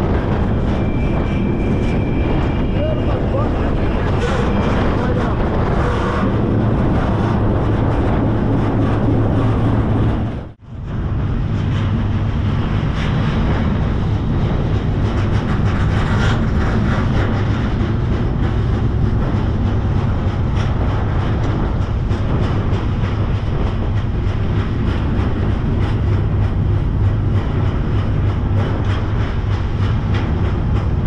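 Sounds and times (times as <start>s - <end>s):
freight train rumble and rattle: 0.0s - 31.0s.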